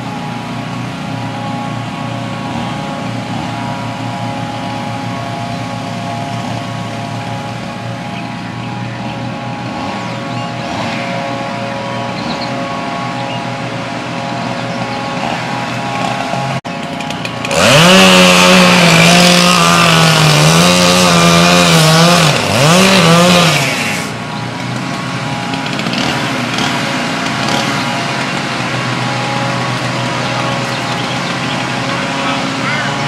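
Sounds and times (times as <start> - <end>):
chainsaw revving: 0.0 - 33.0
low engine hum: 0.0 - 33.0.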